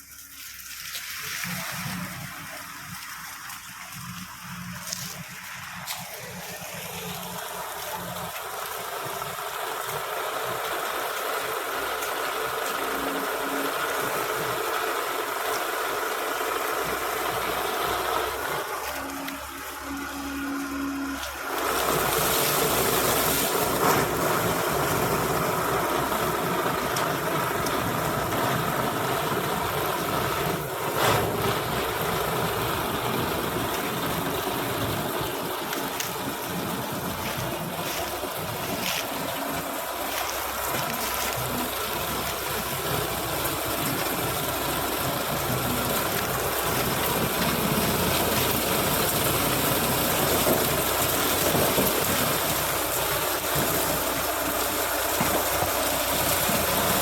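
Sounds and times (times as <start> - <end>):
harvester engine running: 0.0 - 57.0.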